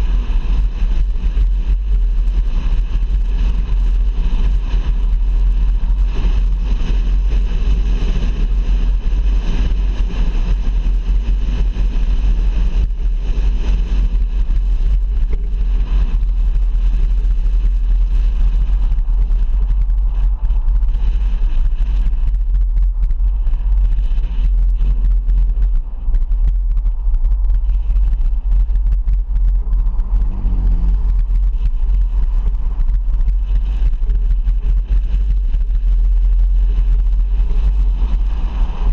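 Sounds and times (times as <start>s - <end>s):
car road and wind noise: 0.0s - 38.9s.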